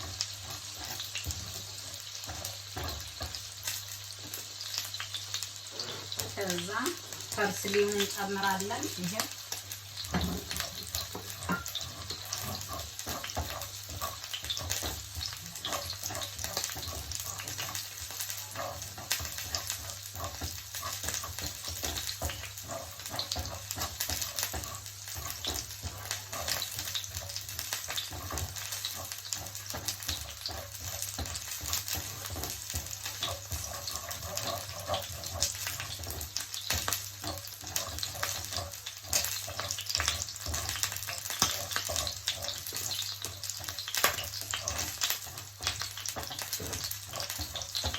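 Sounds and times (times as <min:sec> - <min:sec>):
fish sizzling in a frying pan: 0:00.0 - 0:47.9.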